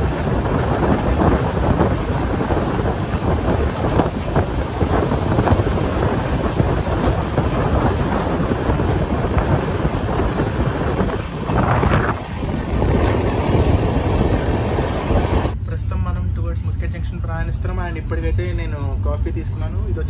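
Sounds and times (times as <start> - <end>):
train coach rumbling: 0.0 - 20.0
wind buffeting microphone: 0.0 - 20.0.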